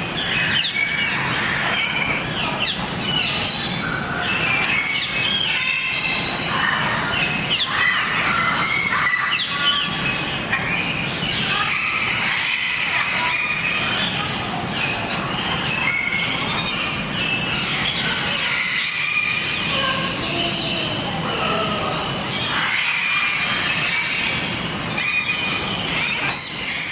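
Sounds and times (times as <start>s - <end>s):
flock of birds chirping and squawking: 0.0s - 26.9s.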